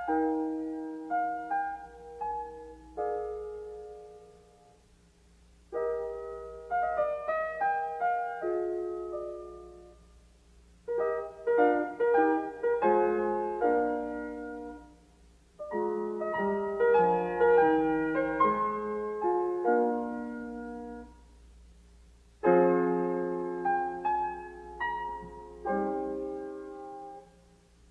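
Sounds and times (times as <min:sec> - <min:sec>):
piano music: 0:00.0 - 0:04.8, 0:05.7 - 0:10.2, 0:10.8 - 0:21.4, 0:22.4 - 0:27.9.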